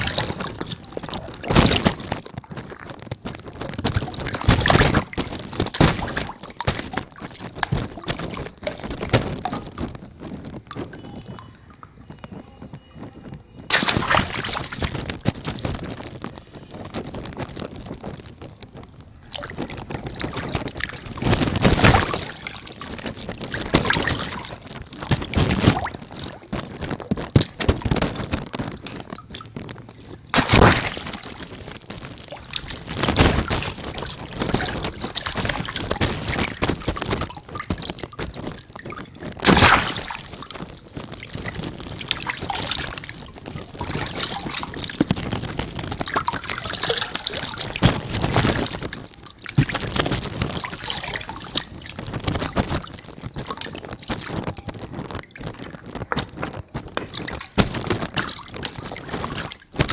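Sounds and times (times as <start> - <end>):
water balloons bursting: 0.0 - 59.9
water pouring and splashing: 0.0 - 59.9.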